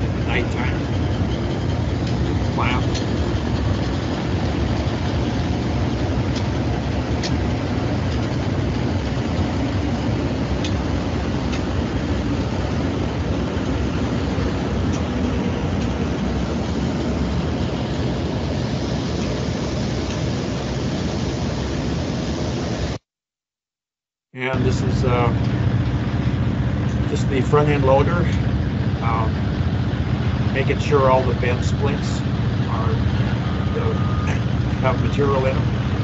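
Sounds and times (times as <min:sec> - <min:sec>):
plant machinery rumbling: 0:00.0 - 0:22.9, 0:24.4 - 0:36.0.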